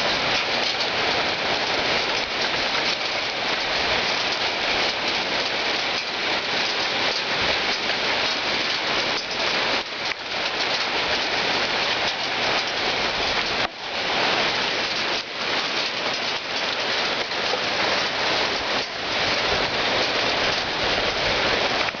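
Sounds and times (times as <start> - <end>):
hail and rain pelting down: 0.0 - 22.0.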